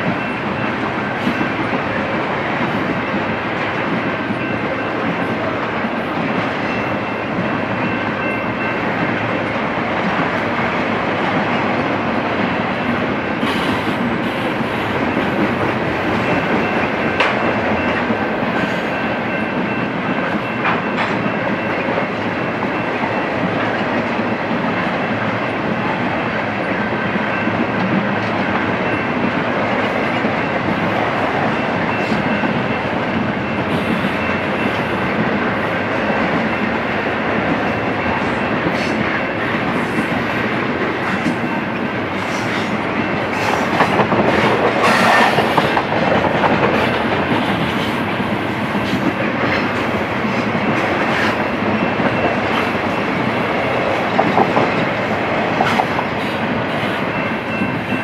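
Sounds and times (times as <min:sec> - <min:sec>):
freight train rumbling past: 0:00.0 - 0:58.0
train cars clanking: 0:00.0 - 0:58.0.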